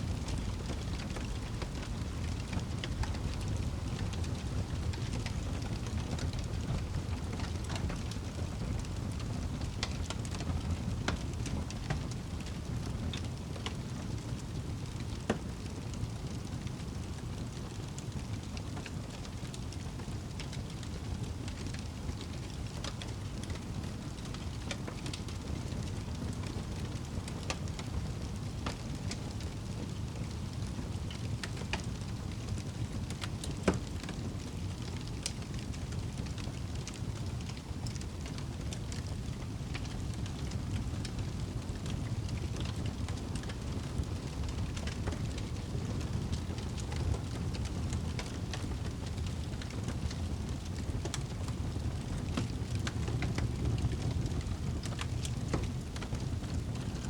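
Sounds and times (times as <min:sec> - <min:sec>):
wood fire burning: 0:00.0 - 0:57.0.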